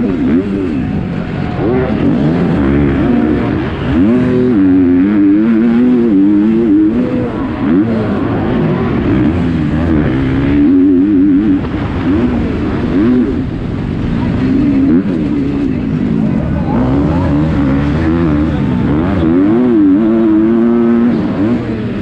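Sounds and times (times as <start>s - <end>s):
motocross engine revving: 0.0s - 22.0s.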